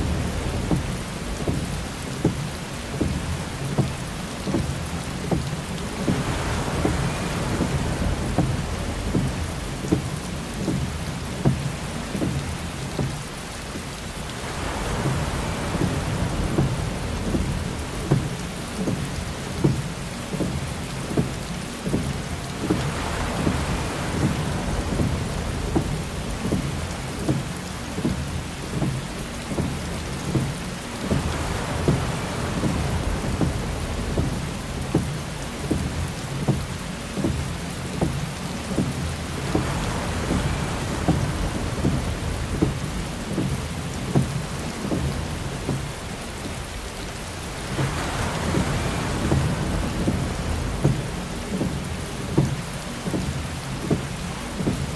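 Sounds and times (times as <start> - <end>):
heavy rain on car roof: 0.0 - 54.9
windshield wiper swish: 0.0 - 54.9.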